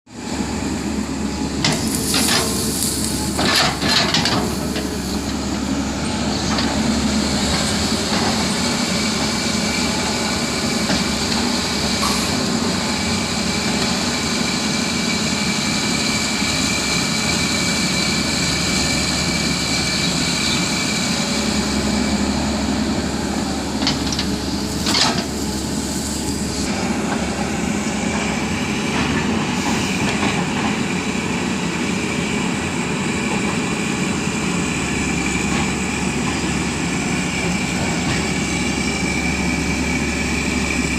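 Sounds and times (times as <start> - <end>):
heavy machine diesel engine: 0.1 - 40.9.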